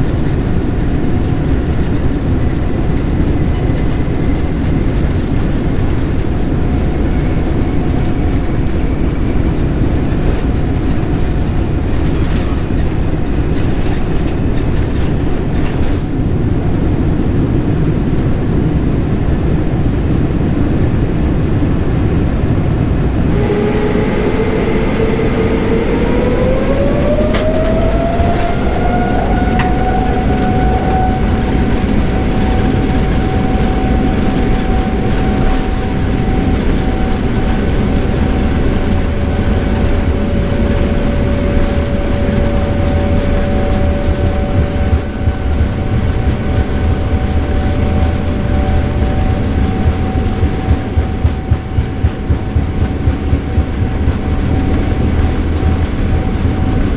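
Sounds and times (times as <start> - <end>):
jet engine rumble in cabin: 0.0 - 56.9
jet engine whine: 0.0 - 56.9.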